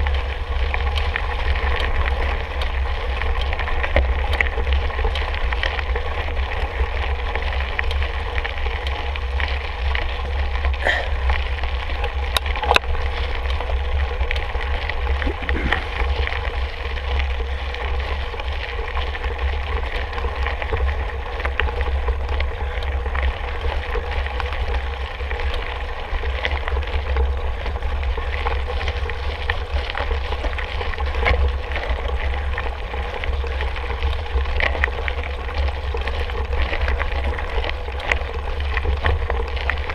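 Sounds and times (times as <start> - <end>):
bike tyres rolling on trail: 0.0 - 39.9
wind rumbling on microphone: 0.0 - 39.9.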